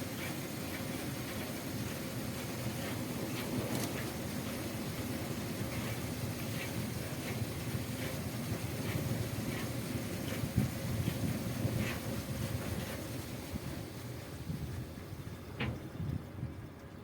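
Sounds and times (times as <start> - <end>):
low mechanical rumble: 0.6 - 17.0.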